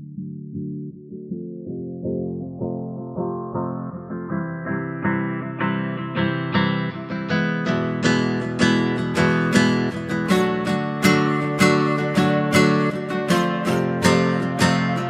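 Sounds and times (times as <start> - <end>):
guitar chords strummed: 0.0 - 15.0.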